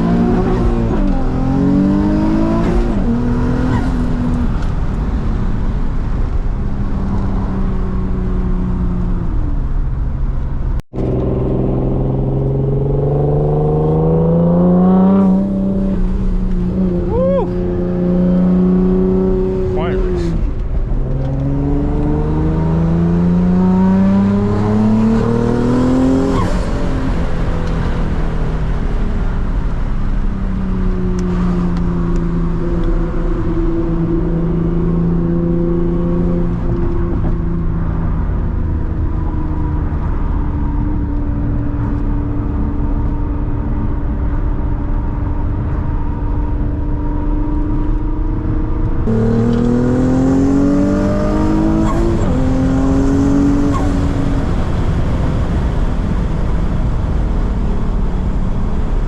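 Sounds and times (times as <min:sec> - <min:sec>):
car engine revving: 0:00.0 - 0:09.4, 0:10.9 - 0:41.7, 0:45.8 - 0:59.0.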